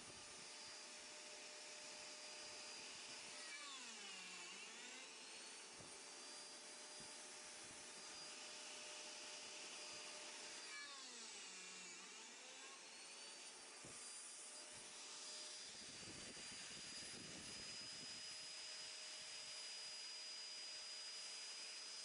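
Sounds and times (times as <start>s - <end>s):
electric motor spinning down: 0.0s - 22.0s.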